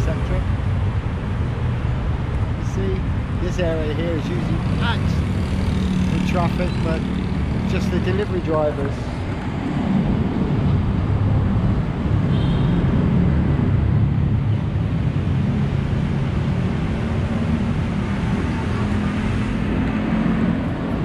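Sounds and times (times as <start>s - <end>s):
street traffic rumble: 0.0s - 21.0s
motorbikes passing: 1.6s - 21.0s.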